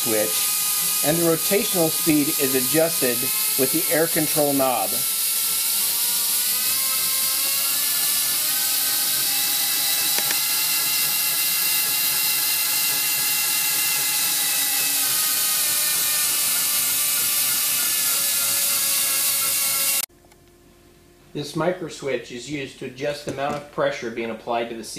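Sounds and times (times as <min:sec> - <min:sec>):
air-driven spindle hissing and whining: 0:00.0 - 0:20.1.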